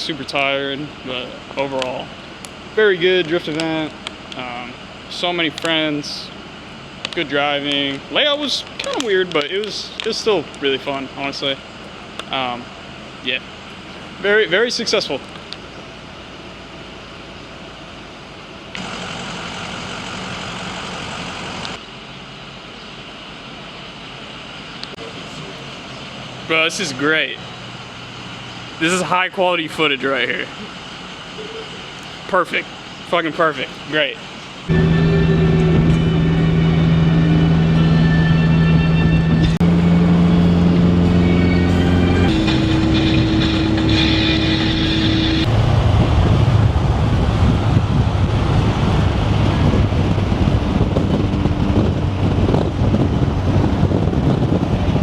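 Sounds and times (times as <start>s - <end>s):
road noise: 0.0s - 55.0s
vehicle engine running: 0.0s - 55.0s.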